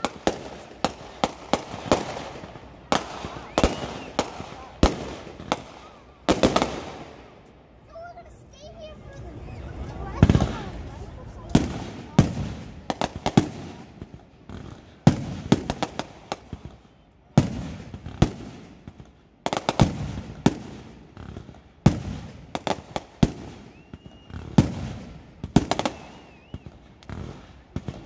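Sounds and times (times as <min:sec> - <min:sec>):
fireworks and firecrackers banging: 0:00.0 - 0:28.0.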